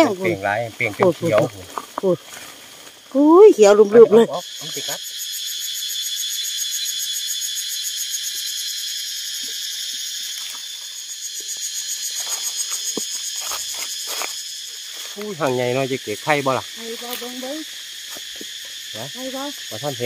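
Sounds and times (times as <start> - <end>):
insect chorus shrilling: 0.0 - 20.0.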